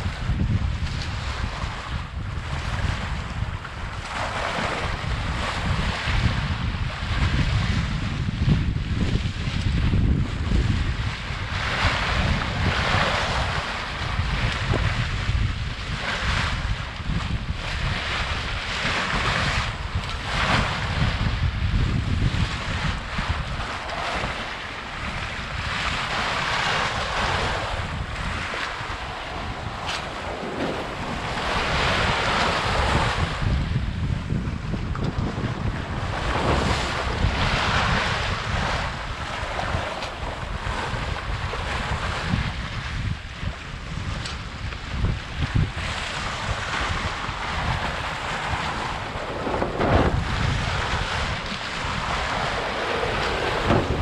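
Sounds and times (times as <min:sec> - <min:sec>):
water rushing along boat hull: 0:00.0 - 0:54.0
wind buffeting microphone: 0:00.0 - 0:54.0.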